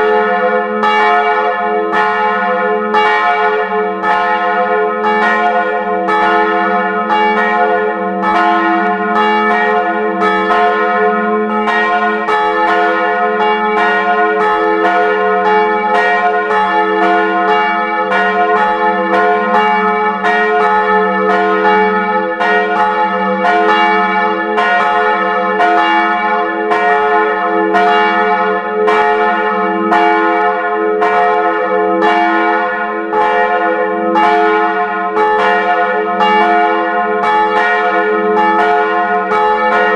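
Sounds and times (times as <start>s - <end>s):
large church bell ringing: 0.0s - 39.9s
small church bell ringing: 0.0s - 39.9s.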